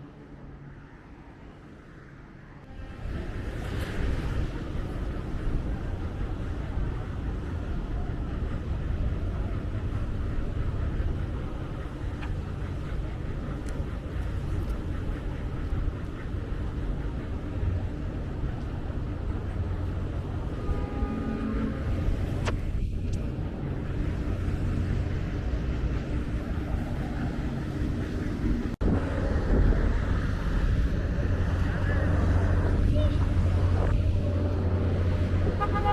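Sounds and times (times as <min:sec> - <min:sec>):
road vehicle rumble: 0:00.0 - 0:35.9.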